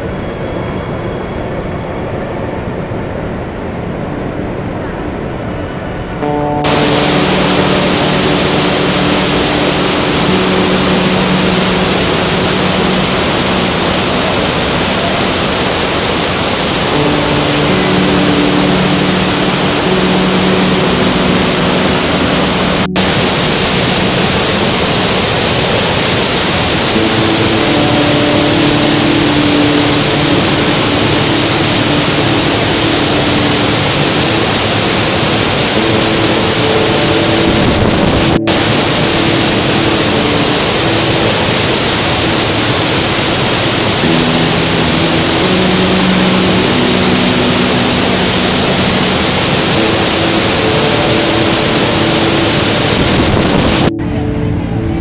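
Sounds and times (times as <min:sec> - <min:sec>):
rush of falling water: 0:06.6 - 0:53.9.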